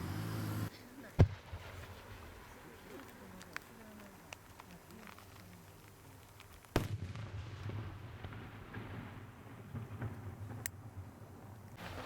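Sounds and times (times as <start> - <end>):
faint crackles: 0.7 - 12.0.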